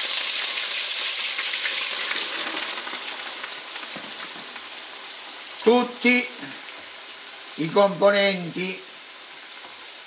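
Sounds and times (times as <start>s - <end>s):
meat sizzling in hot fat: 0.0s - 10.0s.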